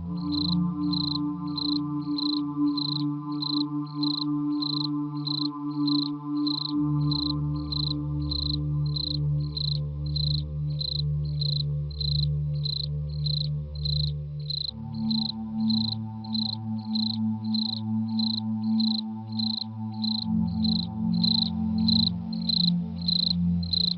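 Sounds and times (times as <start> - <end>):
cricket chirps: 0.1 - 23.9.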